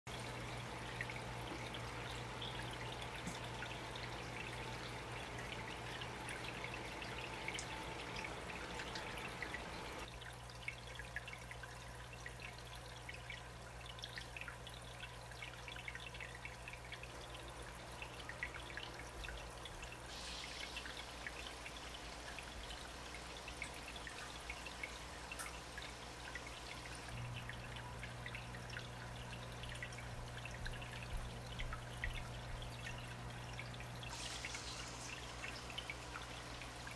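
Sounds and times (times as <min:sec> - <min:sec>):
low steady hum: 0:00.1 - 0:36.9
water dripping and splashing: 0:00.1 - 0:36.9
water trickling: 0:00.1 - 0:36.9.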